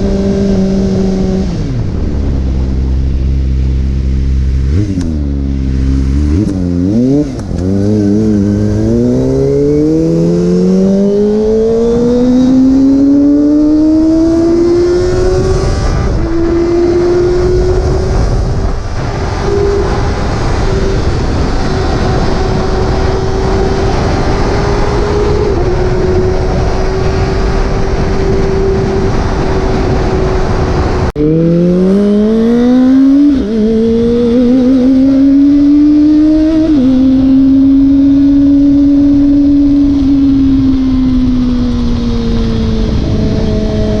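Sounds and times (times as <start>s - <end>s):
motorcycle engine accelerating: 0.0s - 44.0s
wind rush: 0.0s - 44.0s.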